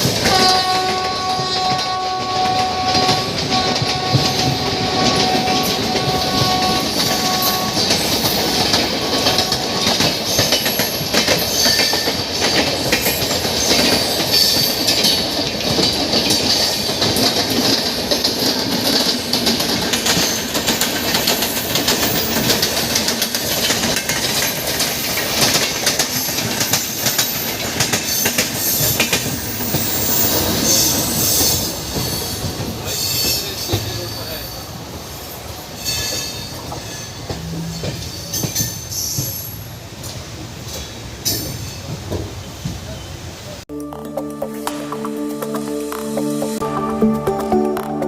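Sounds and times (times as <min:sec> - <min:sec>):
train wheels clattering over rails: 0:00.0 - 0:43.0.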